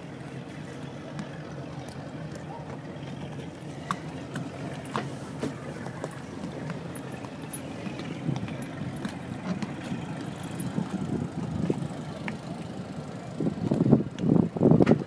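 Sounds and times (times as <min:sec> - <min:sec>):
boat engine idling: 0:00.0 - 0:14.9.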